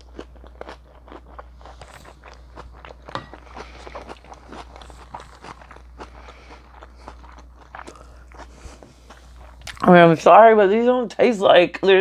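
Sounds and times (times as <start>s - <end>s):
wet chewing mouth clicks: 0.0s - 9.9s
steady low hum: 0.0s - 12.0s.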